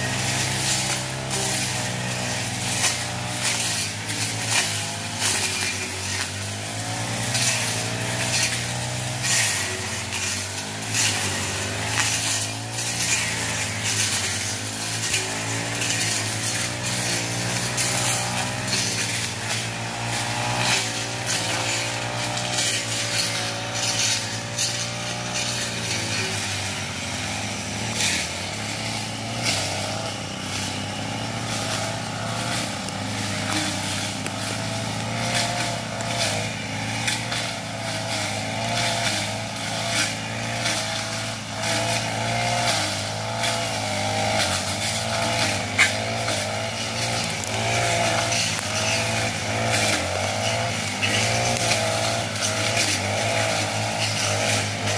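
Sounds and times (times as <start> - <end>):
blades ticking on vegetation: 0.0 - 54.9
brush cutter engines running: 0.0 - 54.9.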